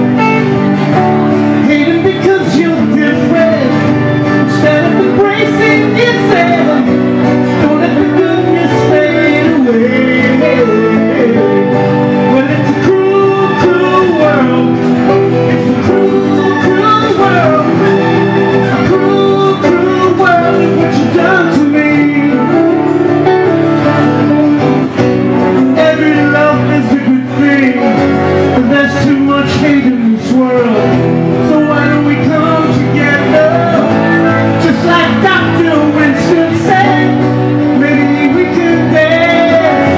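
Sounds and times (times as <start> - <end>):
acoustic guitar chords: 0.0 - 39.9
man singing: 0.0 - 39.9.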